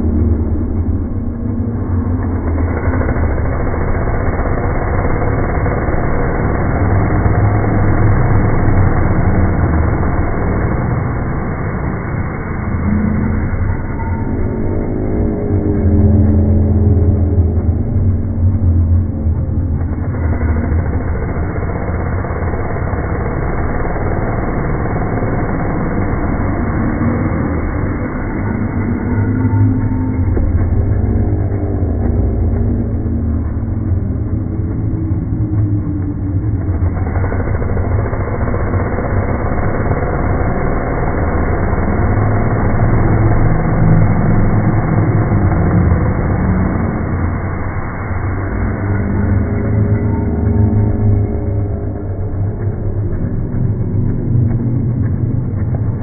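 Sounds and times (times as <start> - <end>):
chainsaw running: 1.7 - 15.1, 17.5 - 55.9.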